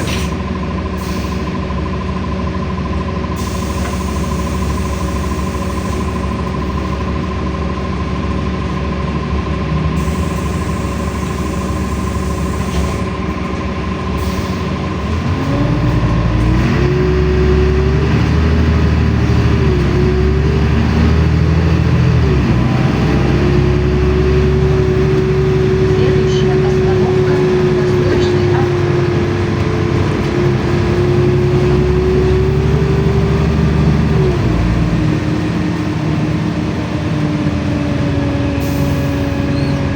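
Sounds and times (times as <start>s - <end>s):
bus engine accelerating: 0.0s - 39.9s.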